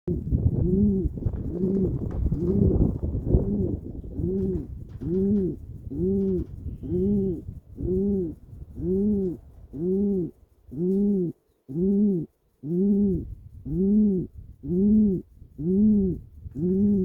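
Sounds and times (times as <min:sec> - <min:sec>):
pigeon cooing: 0:00.1 - 0:17.0.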